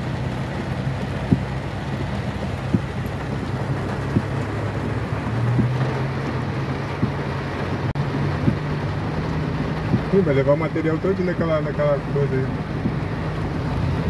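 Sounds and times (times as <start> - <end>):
car engine low hum: 0.0 - 14.0
rain and water on car: 0.0 - 14.0.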